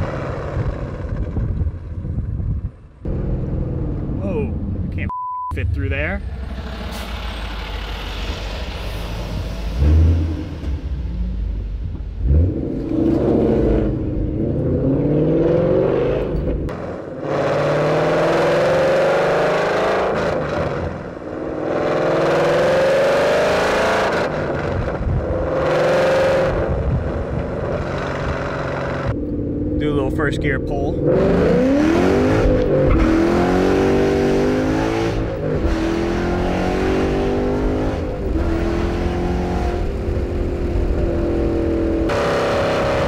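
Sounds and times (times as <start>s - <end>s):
car engine revving: 5.6s - 43.0s.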